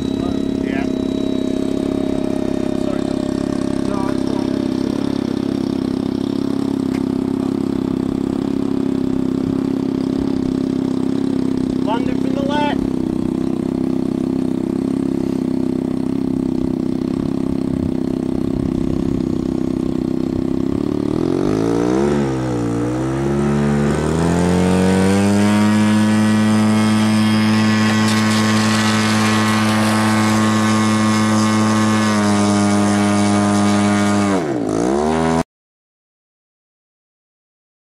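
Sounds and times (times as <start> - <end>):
model plane motors whining: 0.0 - 34.7.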